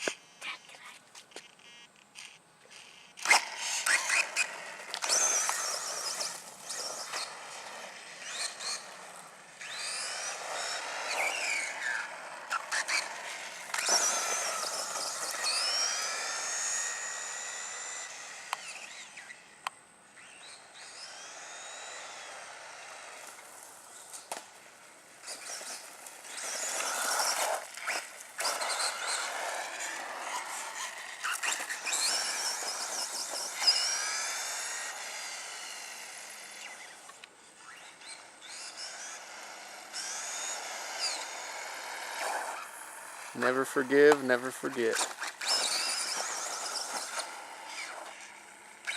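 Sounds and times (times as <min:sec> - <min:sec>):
electric motor whining: 0:01.3 - 0:48.9.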